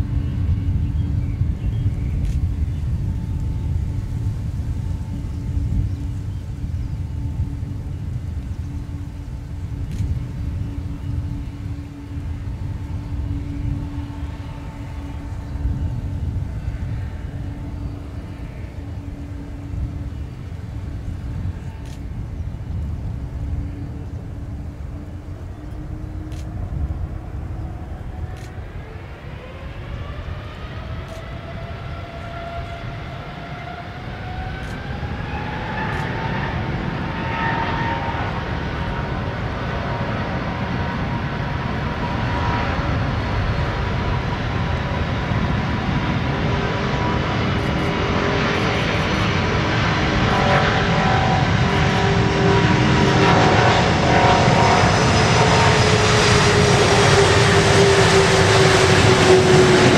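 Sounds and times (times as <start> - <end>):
jet engines roaring: 0.0 - 59.9
rising engine whine: 0.0 - 59.9.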